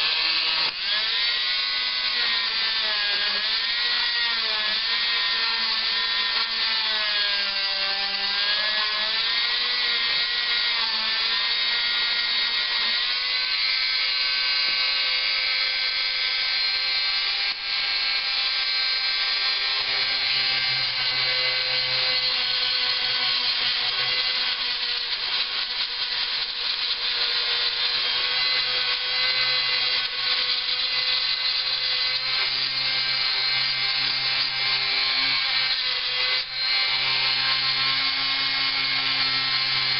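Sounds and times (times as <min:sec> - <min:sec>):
rotary tool whine: 0:00.0 - 0:39.9.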